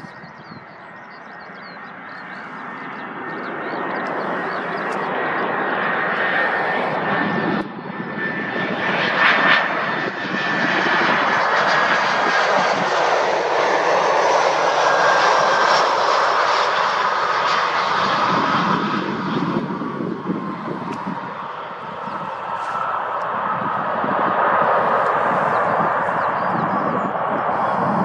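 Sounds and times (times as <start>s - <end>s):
jet airliner flying past: 0.0s - 28.0s.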